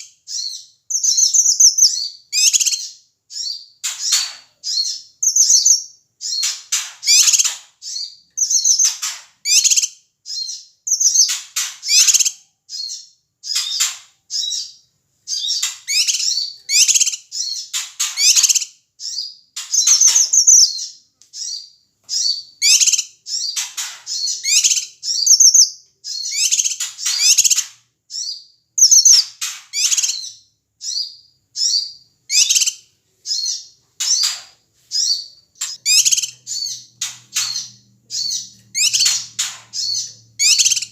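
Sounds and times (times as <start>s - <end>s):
bird chirping and whistling: 0.0s - 40.9s.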